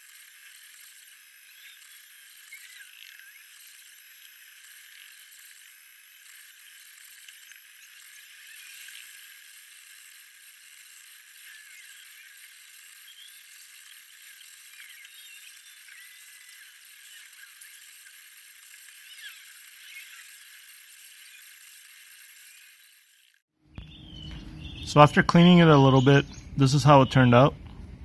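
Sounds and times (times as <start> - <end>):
stepper motors whining: 0.0 - 28.0.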